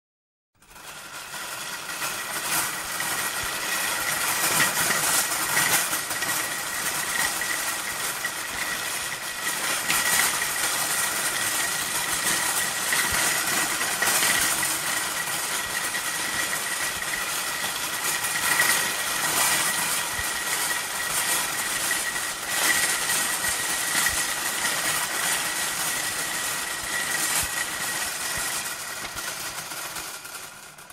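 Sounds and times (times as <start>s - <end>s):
shopping cart rattling: 0.8s - 30.9s.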